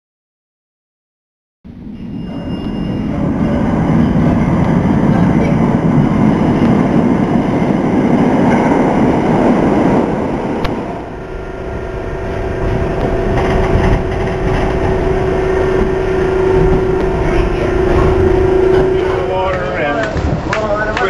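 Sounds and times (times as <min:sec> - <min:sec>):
moving subway car hum: 0:01.7 - 0:21.0
train rumbling into station: 0:01.7 - 0:21.0.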